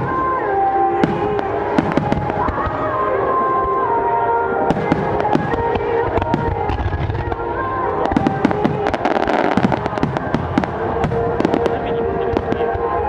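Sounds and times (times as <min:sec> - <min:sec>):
fireworks bangs and crackles: 0:00.0 - 0:03.0, 0:04.7 - 0:13.0
music of held notes: 0:00.0 - 0:13.0.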